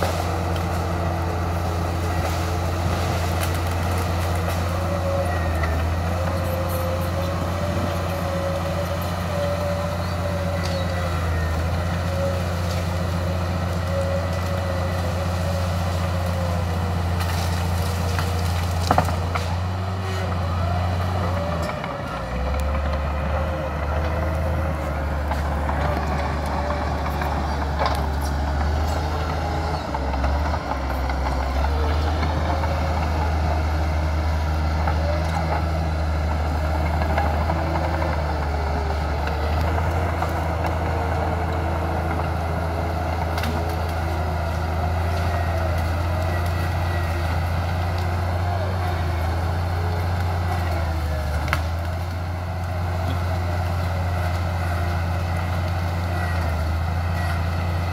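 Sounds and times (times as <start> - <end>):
bulldozer diesel engine: 0.0 - 57.9.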